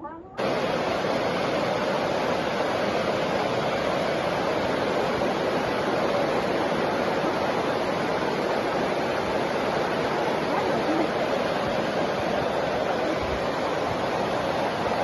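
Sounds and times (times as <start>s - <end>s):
heavy rain rushing: 0.4s - 15.0s.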